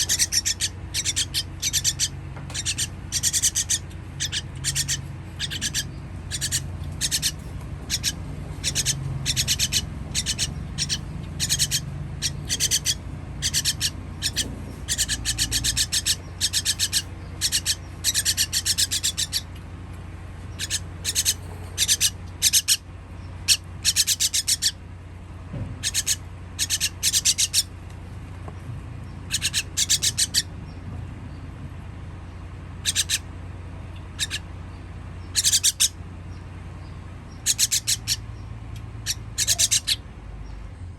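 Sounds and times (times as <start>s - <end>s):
baby birds begging calls: 0.0s - 40.8s.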